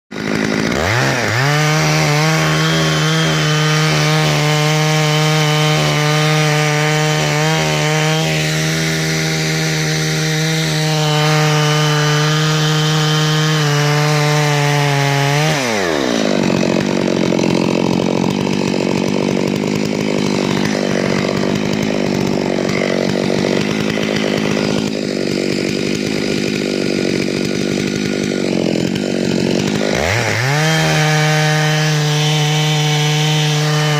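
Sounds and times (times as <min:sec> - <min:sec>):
chainsaw cutting wood: 0:00.1 - 0:33.9
chainsaw running: 0:00.1 - 0:33.9.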